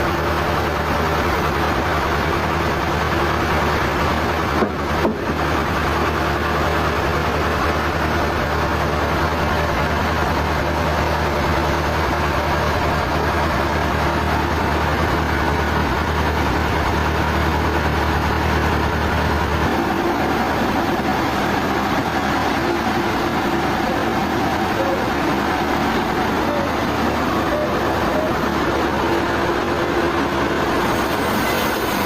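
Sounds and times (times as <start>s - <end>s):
sawmill machinery humming: 0.0s - 32.0s.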